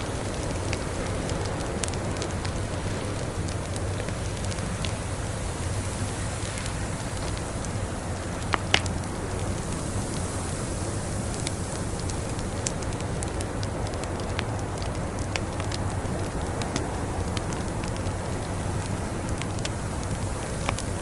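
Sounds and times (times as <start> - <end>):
fire popping and snapping: 0.0 - 21.0
rushing hiss and low rumble: 0.0 - 21.0
wood fire crackling: 0.0 - 21.0.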